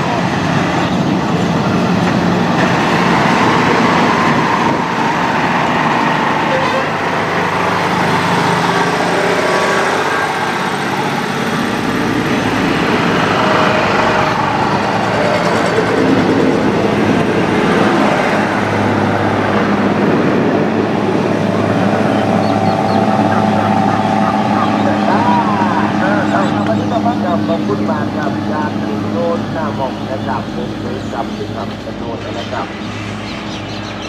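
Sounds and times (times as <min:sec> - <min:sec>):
diesel train engines running: 0:00.0 - 0:34.0
train wheels rolling on rails: 0:00.0 - 0:34.0.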